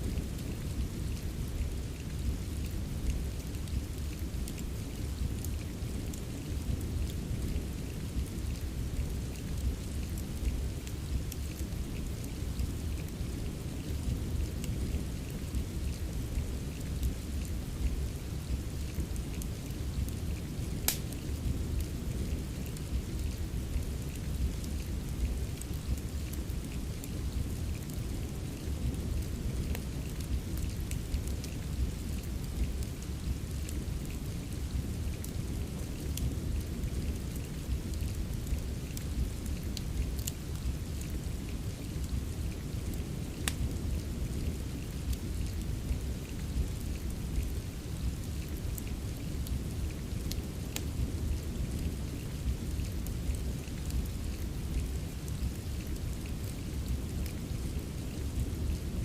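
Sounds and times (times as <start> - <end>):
steady hiss of rain: 0.0 - 59.0
wood fire crackling and popping: 0.1 - 48.6, 49.4 - 58.8.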